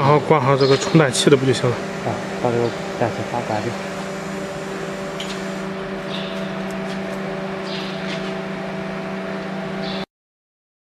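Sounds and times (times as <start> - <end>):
furnace machinery humming: 0.0 - 10.1.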